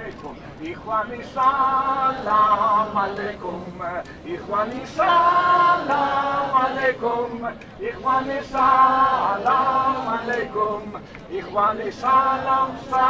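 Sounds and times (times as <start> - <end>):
voices singing slow melody: 0.6 - 13.0.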